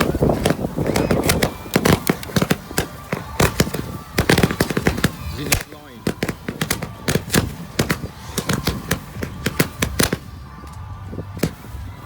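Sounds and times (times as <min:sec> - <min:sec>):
fireworks cracks and bangs: 0:00.0 - 0:12.0.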